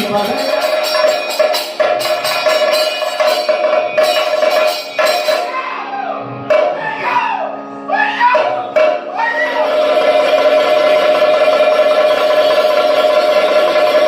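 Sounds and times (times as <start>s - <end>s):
metallic and drum strikes: 0.0s - 5.6s, 6.5s - 7.2s, 8.3s - 14.0s.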